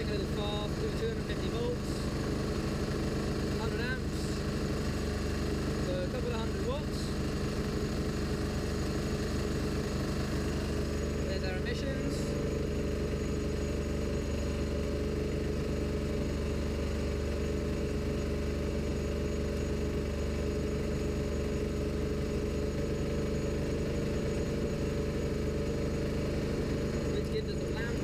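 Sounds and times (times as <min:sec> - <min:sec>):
generator engine running: 0:00.0 - 0:28.0.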